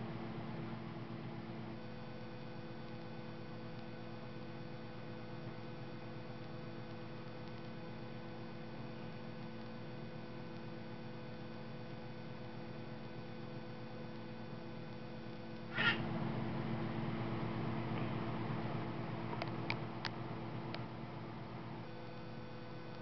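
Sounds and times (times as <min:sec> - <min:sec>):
electrical hum of held tones: 0:00.0 - 0:23.0.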